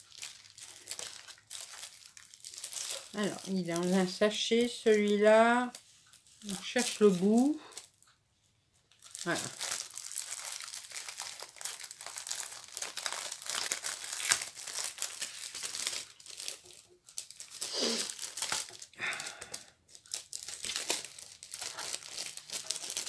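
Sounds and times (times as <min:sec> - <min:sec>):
plastic bag crinkling: 0:00.0 - 0:08.1, 0:08.9 - 0:23.0.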